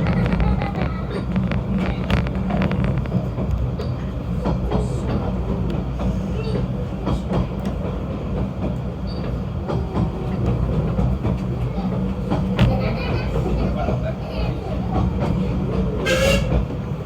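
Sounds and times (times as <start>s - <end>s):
rack train running: 0.0s - 17.0s.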